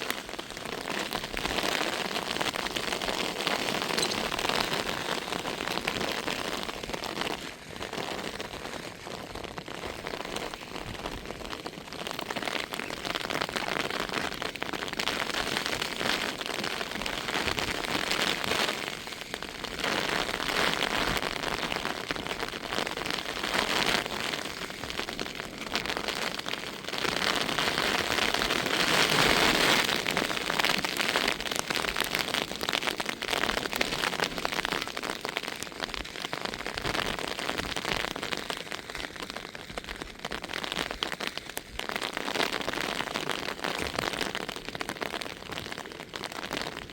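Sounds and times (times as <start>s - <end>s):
heavy rain patter: 0.0s - 46.9s.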